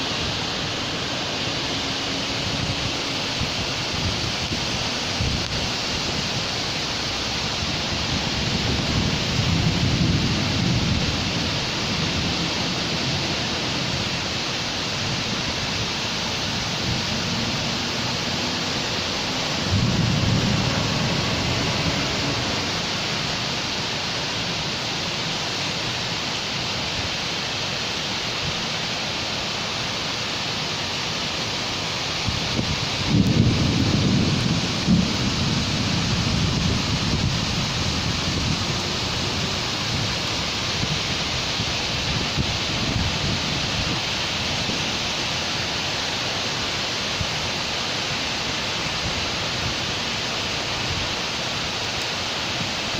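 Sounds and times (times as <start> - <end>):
rain hissing: 0.0 - 52.9.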